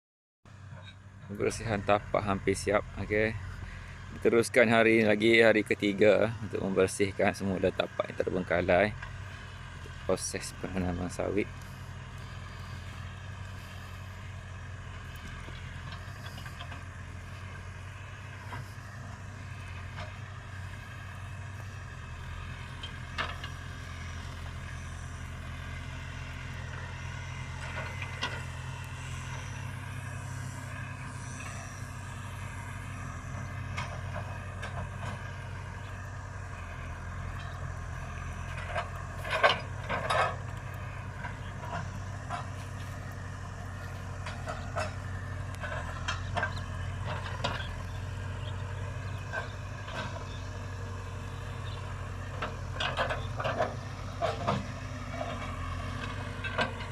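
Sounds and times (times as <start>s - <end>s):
diesel engine running: 0.5s - 56.9s.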